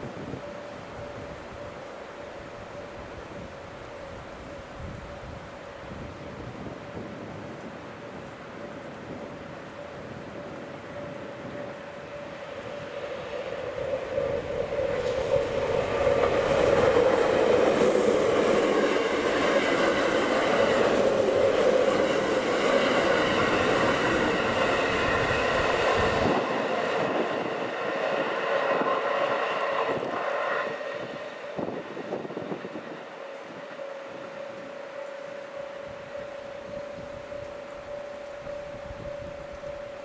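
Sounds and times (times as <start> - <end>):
train passing at speed: 0.0 - 40.0.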